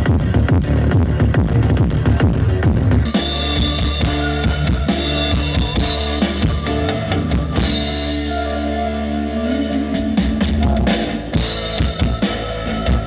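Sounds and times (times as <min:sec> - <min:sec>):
loud music with heavy bass: 0:00.0 - 0:13.0.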